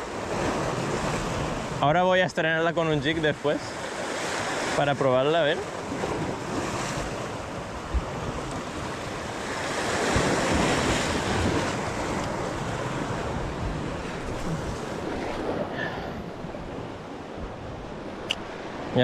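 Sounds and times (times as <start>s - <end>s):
sea waves breaking over rocks: 0.0s - 19.0s.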